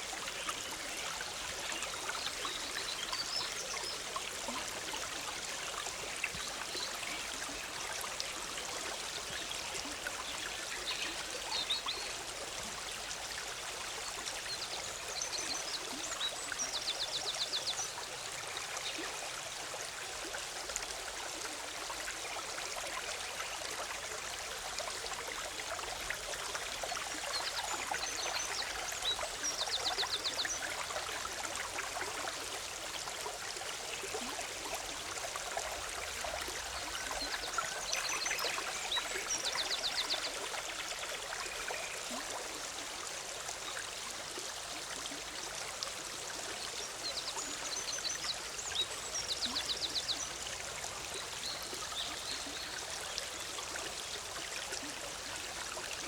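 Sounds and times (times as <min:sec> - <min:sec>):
stream bubbling: 0:00.0 - 0:56.0.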